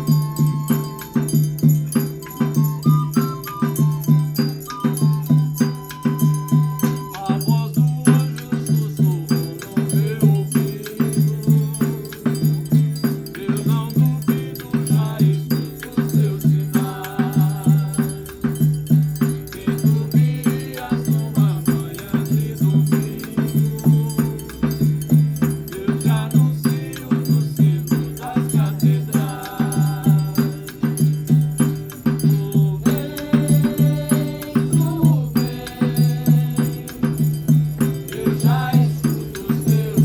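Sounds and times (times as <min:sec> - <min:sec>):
rattling shaker percussion: 0:00.0 - 0:40.0.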